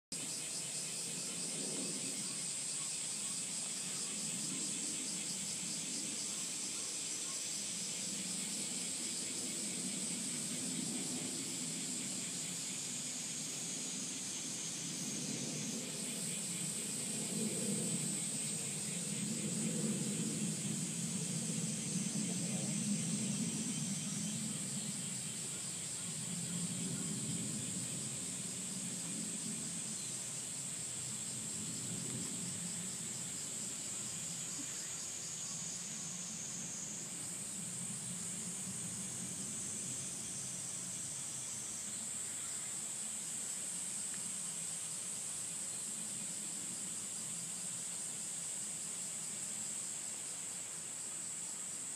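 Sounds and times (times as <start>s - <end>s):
insects droning: 0.1s - 51.9s.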